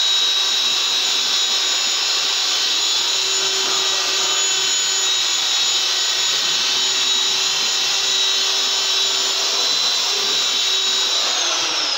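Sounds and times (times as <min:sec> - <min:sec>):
electric sander whining: 0:00.0 - 0:11.9.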